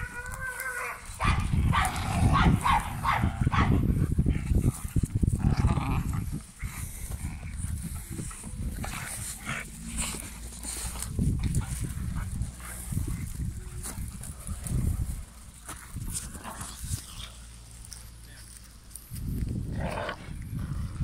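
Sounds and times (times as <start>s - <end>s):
puppies growling: 0.0s - 17.7s.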